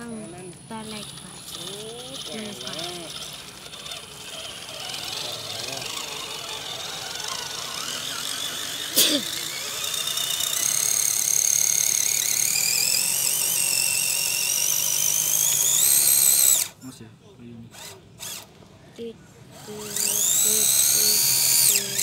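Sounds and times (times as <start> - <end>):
electric motor whining: 0.0 - 16.8, 17.7 - 18.6, 19.5 - 22.0.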